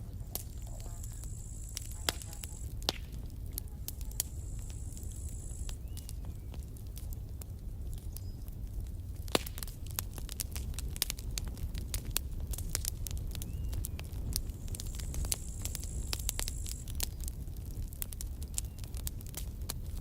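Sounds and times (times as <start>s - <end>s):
campfire crackling and popping: 0.0s - 20.0s
low fire rumble: 0.0s - 20.0s.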